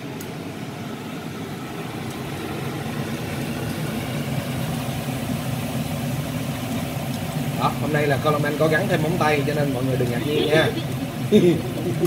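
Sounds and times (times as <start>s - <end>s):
steady low hum: 0.0s - 12.0s
garlic sizzling in oil: 0.5s - 12.0s.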